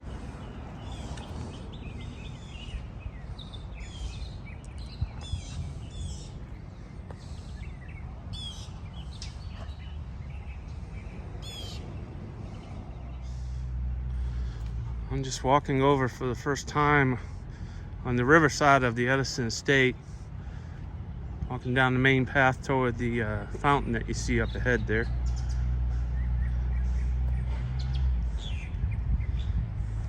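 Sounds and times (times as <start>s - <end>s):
birds chirping and trilling: 0.0s - 30.0s
steady low rumble: 0.0s - 30.0s.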